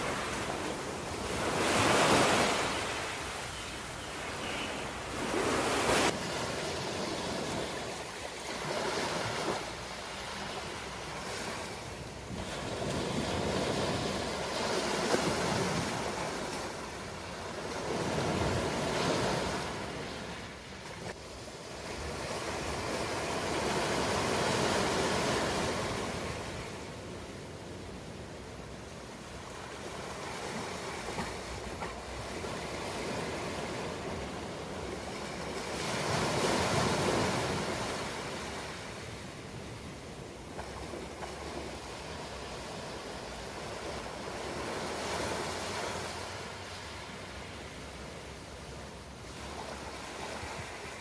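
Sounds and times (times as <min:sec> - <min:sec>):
ocean waves breaking on shore: 0:00.0 - 0:51.0.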